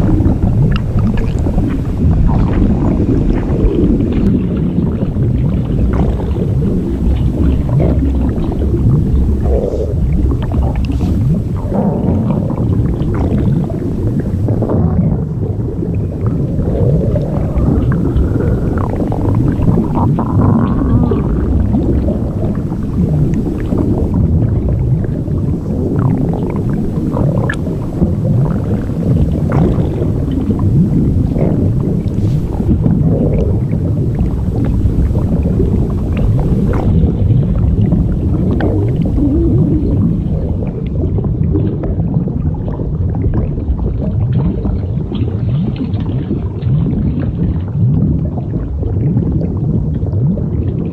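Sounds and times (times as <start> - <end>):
creaking groans: 0.0 - 41.0
low gurgling rumble: 0.0 - 50.9.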